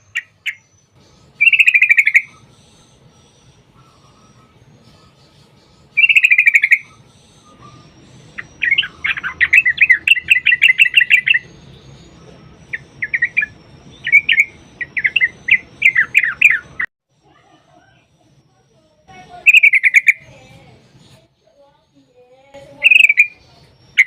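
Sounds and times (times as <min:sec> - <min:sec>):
bird singing trills and chatter: 0:00.0 - 0:24.0.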